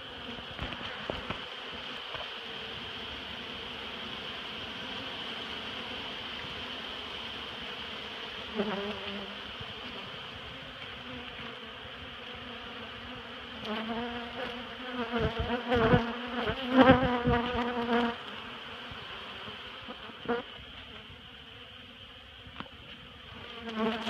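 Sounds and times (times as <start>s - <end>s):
bees buzzing close by: 0.0s - 24.0s
honeybees humming: 0.0s - 24.0s.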